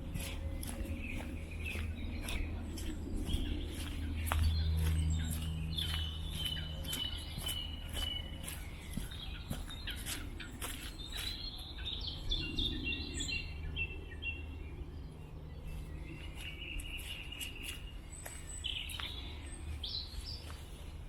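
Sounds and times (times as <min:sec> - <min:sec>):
small songbirds singing: 0:00.0 - 0:21.0
steady low rumble: 0:00.0 - 0:21.0.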